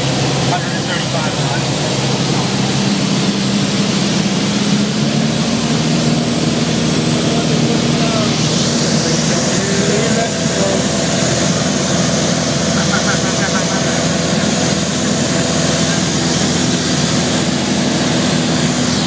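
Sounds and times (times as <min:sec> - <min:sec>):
small plane engine droning: 0:00.0 - 0:19.0.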